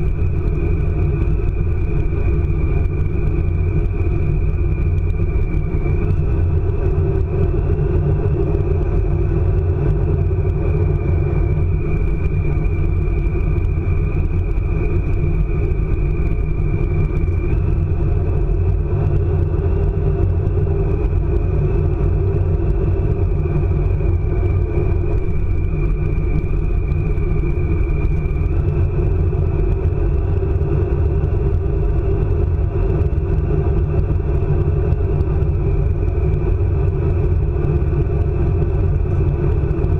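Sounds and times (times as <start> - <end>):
high whine: 0.0 - 39.9
high-speed train rumble: 0.0 - 39.9.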